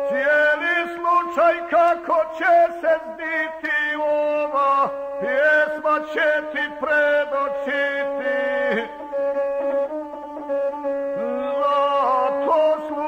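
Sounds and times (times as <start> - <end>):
man chanting: 0.0 - 9.1, 11.2 - 13.0
bowed single-string fiddle: 0.0 - 13.0.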